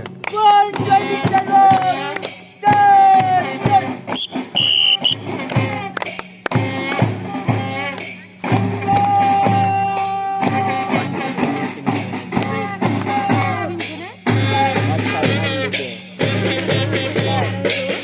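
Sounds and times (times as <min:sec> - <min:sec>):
music playing: 0:00.0 - 0:18.0.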